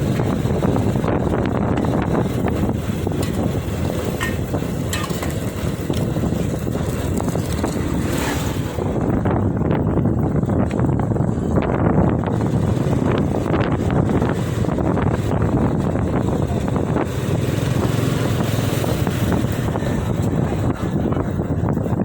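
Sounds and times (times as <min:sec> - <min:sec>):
big truck rumbling: 0:00.0 - 0:22.0
wind buffeting microphone: 0:00.0 - 0:22.0.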